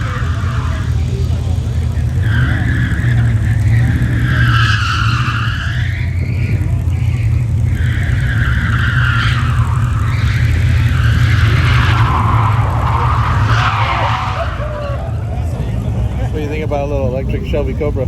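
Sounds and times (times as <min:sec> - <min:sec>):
car tires squealing: 0:00.0 - 0:18.0.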